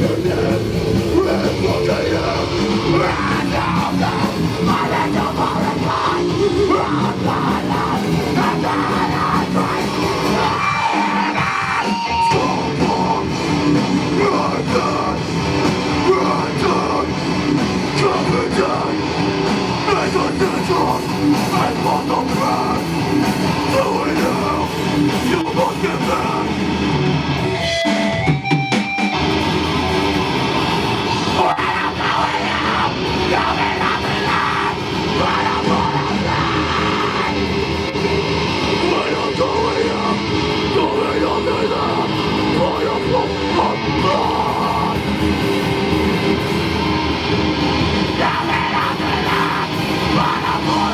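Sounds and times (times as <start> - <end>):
person singing: 0.0 - 26.9, 31.1 - 45.4, 48.0 - 50.9
distorted electric guitars: 0.0 - 50.9
rock drums: 0.0 - 50.9.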